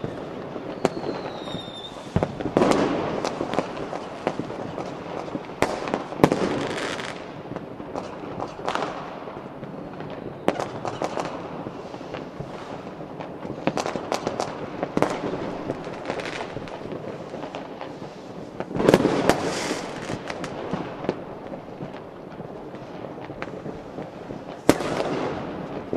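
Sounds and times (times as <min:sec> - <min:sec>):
fireworks bangs: 0:00.0 - 0:25.9
fireworks crackling: 0:00.0 - 0:25.9.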